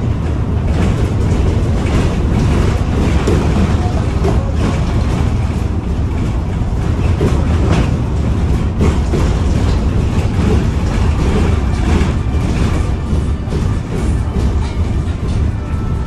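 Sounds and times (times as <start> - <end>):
low road rumble: 0.0 - 16.0.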